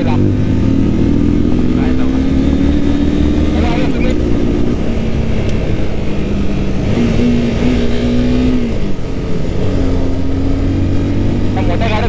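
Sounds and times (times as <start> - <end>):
heavy wind rumble: 0.0 - 12.0
motorcycle engine running: 0.0 - 12.0.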